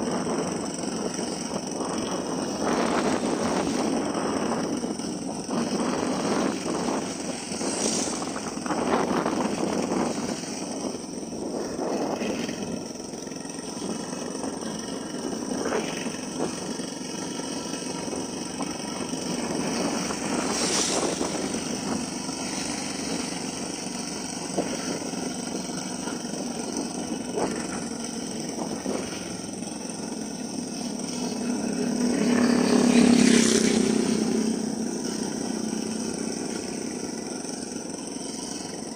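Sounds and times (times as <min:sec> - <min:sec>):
motorcycle engine running: 0:00.0 - 0:38.9
road noise: 0:00.0 - 0:38.9
wind noise: 0:00.0 - 0:38.9.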